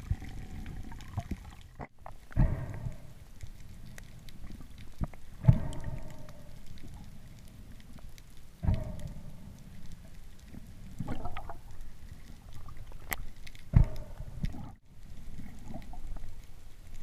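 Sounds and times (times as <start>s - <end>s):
rush of moving water underwater: 0.0s - 17.0s.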